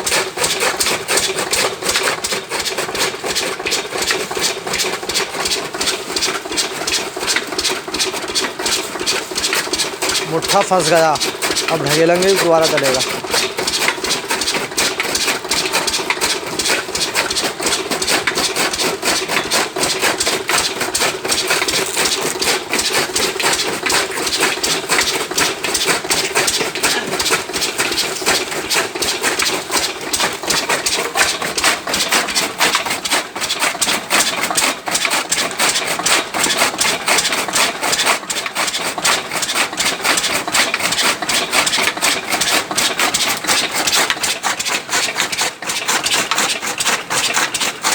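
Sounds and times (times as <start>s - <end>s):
chaff cutter chopping cane: 0.0s - 47.9s.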